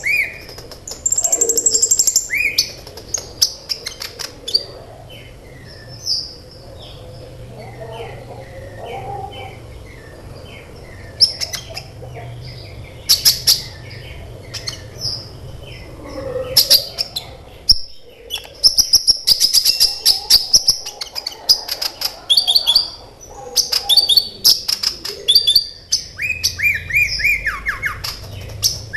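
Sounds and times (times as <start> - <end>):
bird high-pitched chirps and trills: 0.0 - 28.9.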